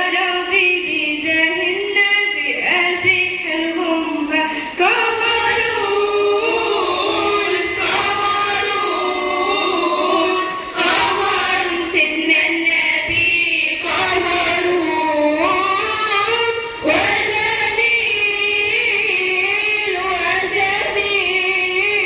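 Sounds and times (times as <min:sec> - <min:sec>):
girl singing: 0:00.0 - 0:22.0.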